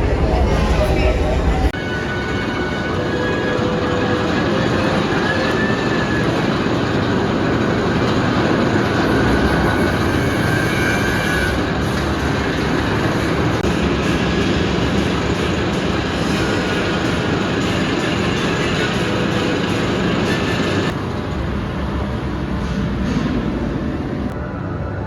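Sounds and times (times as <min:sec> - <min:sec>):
roller coaster train rumbling: 0:00.0 - 0:25.0.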